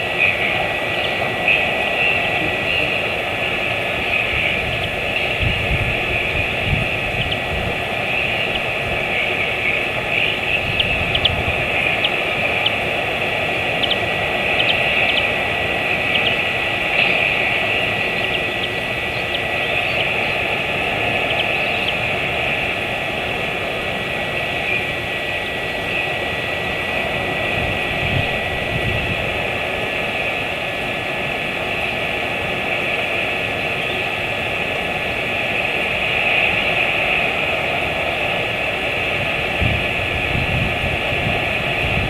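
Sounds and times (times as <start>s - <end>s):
faint constant whine: 0.0s - 42.0s
microphone hiss: 0.0s - 42.0s.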